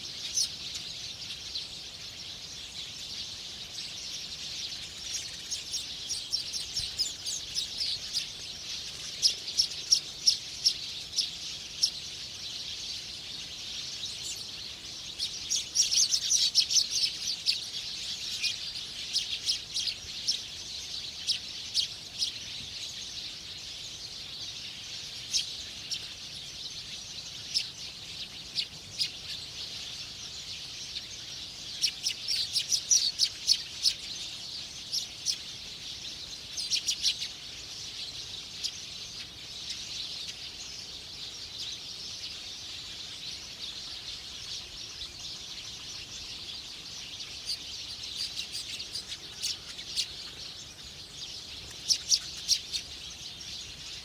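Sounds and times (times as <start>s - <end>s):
high hiss of background insects: 0.0s - 54.0s
small birds chirping: 0.0s - 54.0s.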